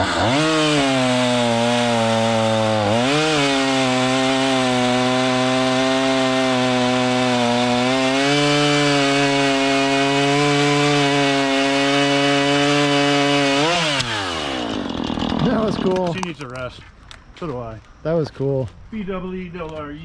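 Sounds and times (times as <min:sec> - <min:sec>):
chainsaw cutting wood: 0:00.0 - 0:16.6.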